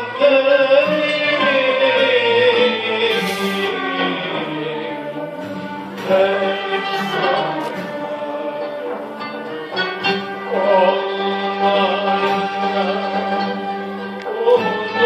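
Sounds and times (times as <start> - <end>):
instrumental ensemble playing: 0.0 - 15.0.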